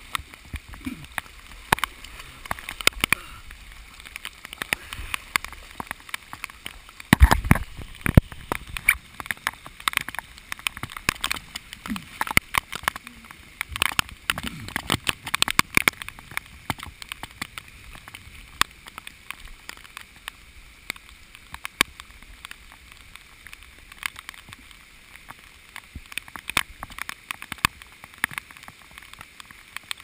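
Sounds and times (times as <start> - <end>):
heavy rain hiss: 0.0 - 30.0
raindrops ticking: 0.0 - 30.0.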